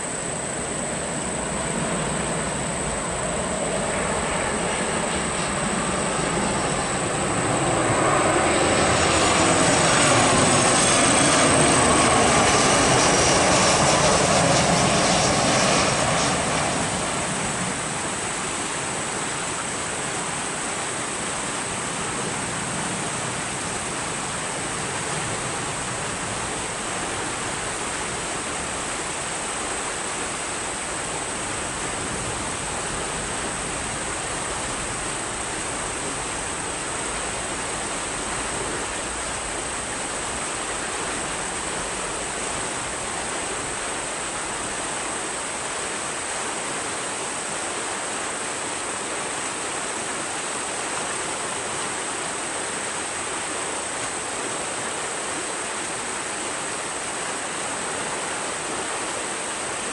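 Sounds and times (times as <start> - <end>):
jet engines whining: 0.0 - 54.6
steady rushing noise: 0.0 - 59.9.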